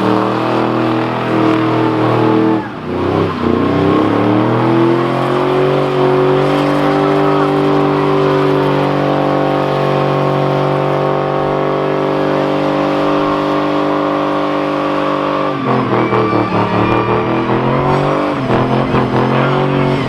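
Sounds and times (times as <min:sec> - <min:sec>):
car engine revving: 0:00.0 - 0:20.0
tyres spinning: 0:00.0 - 0:20.0.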